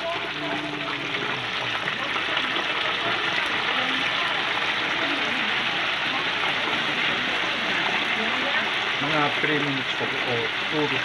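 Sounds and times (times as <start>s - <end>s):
oil crackling and sizzling: 0.0s - 11.0s.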